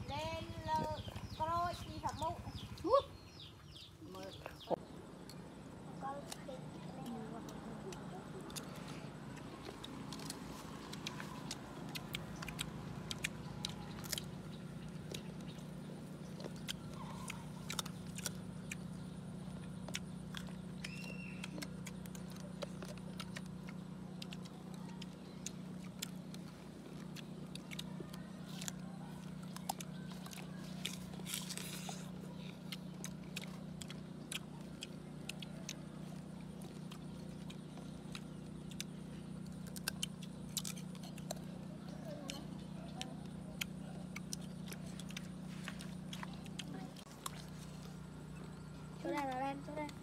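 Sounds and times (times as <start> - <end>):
low hum: 0.0 - 50.0
people chewing crisp fruit: 0.0 - 50.0.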